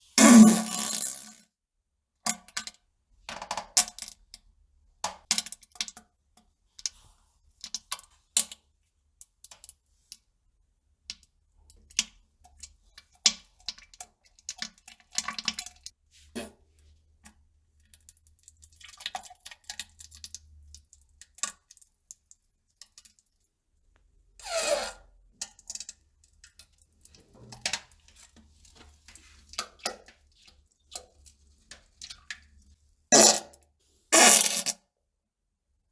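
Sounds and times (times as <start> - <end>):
drips and plops in toilet: 2.3 - 10.3, 10.9 - 33.6.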